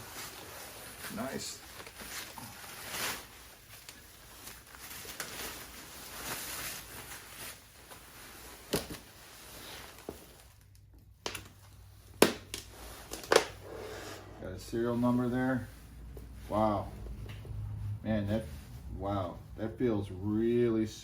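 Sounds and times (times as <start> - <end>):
foam packing rustling: 0.0 - 16.8.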